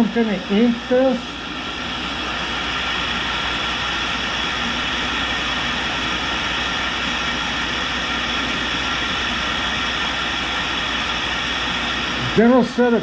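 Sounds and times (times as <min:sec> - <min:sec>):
grinder running with hiss and hum: 0:00.0 - 0:13.0.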